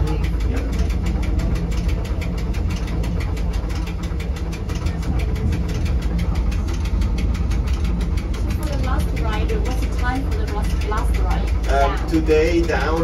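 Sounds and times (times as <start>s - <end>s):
regular clicking: 0.0s - 13.0s
train low rumble: 0.0s - 13.0s.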